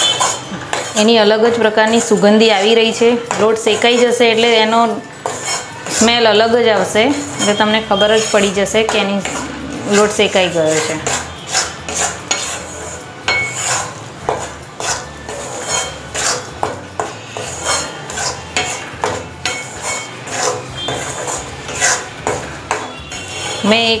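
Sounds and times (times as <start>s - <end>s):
metal spatula scraping metal pan: 0.0s - 24.0s.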